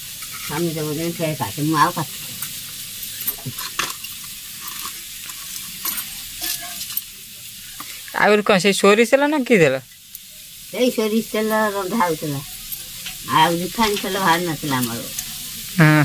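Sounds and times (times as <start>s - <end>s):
wood fire crackling and popping: 0.0s - 8.9s, 9.9s - 15.8s
oil hissing: 0.0s - 16.0s.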